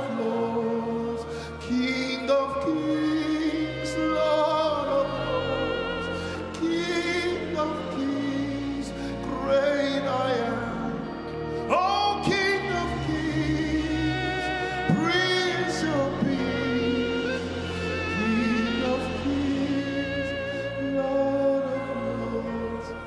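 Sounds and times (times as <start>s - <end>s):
person singing with vibrato: 0.0s - 23.0s
sustained accompaniment and bass: 0.0s - 23.0s.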